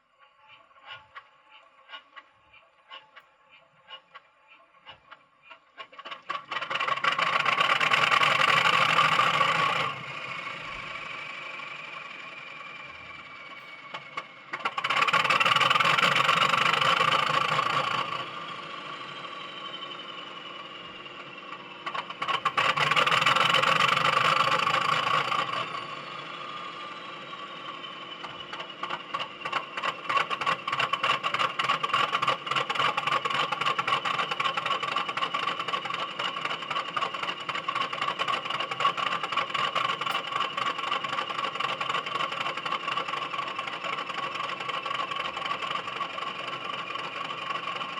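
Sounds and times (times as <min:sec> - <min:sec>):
diesel engine sound from speaker: 0:00.0 - 0:47.9
model train wheels rattling: 0:00.3 - 0:27.1, 0:27.7 - 0:47.9.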